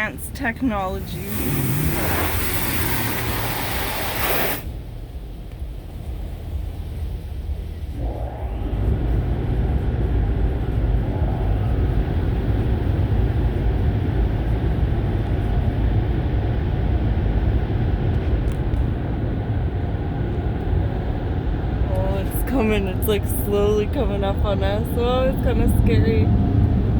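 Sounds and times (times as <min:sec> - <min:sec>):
car wash water and machinery: 0:00.0 - 0:26.9.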